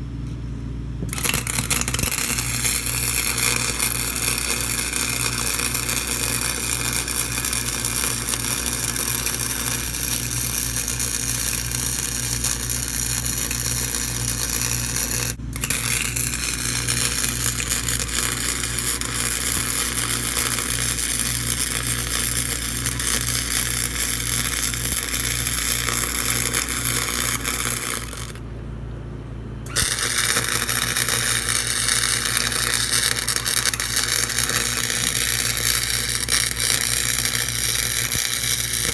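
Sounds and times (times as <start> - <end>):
steady low hum: 0.0 - 38.9
welding arc crackling: 1.1 - 28.4, 29.7 - 38.9.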